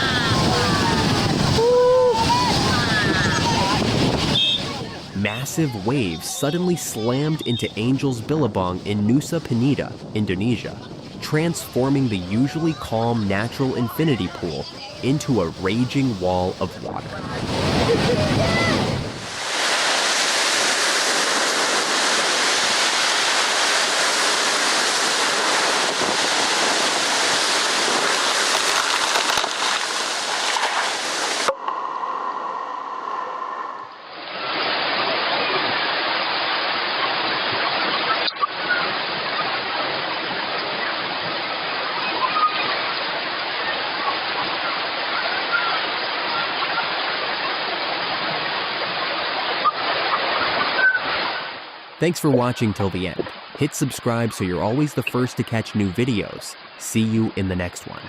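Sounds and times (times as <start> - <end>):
rushing turbulent water: 0.0 - 31.8, 33.1 - 58.0.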